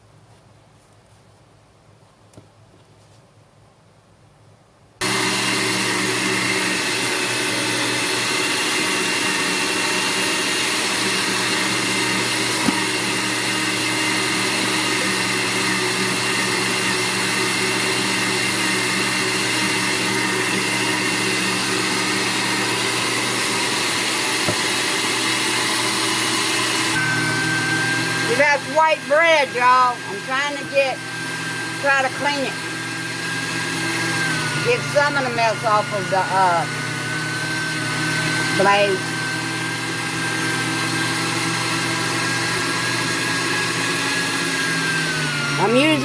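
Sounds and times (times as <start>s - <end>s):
electric meat grinder running: 5.0s - 46.0s.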